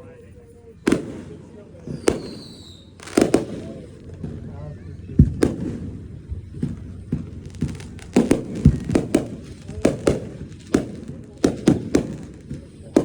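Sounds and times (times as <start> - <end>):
fireworks bangs and pops: 0.8 - 13.0.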